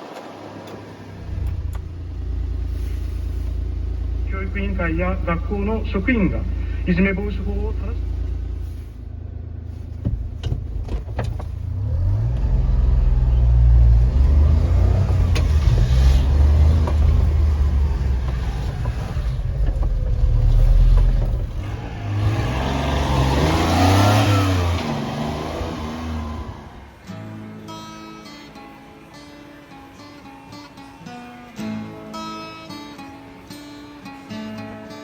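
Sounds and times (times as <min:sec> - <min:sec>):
small truck engine revving: 0:00.0 - 0:34.7.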